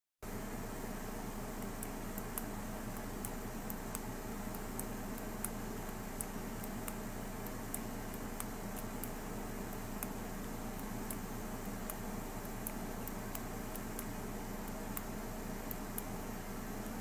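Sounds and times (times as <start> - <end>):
room hum and hiss: 0.2 - 17.0
high-pitched ticks: 1.6 - 17.0.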